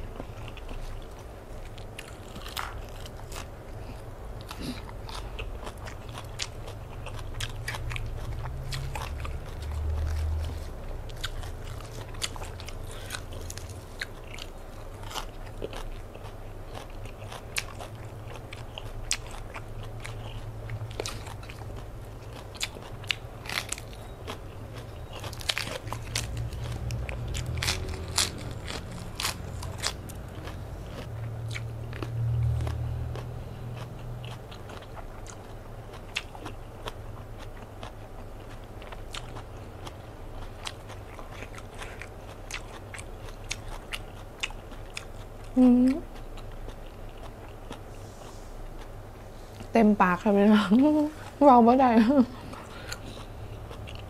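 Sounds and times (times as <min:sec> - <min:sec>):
person chewing leafy greens: 0:00.0 - 0:54.0.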